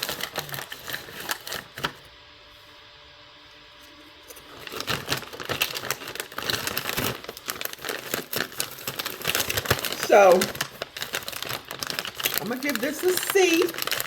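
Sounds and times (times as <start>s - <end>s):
plastic snack bag crinkling: 0.0s - 2.1s, 3.8s - 14.0s.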